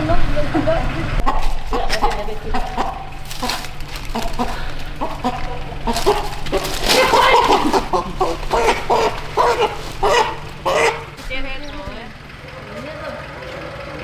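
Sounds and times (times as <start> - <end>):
chicken clucking: 0.0 - 12.6.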